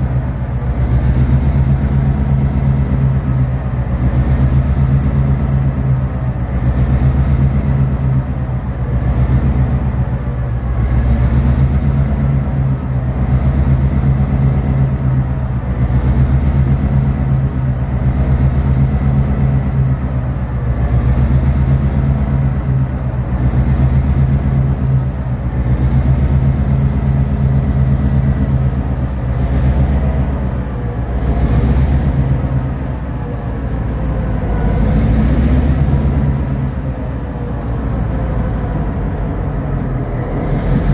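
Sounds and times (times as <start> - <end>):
locomotive diesel engine droning: 0.0 - 40.9.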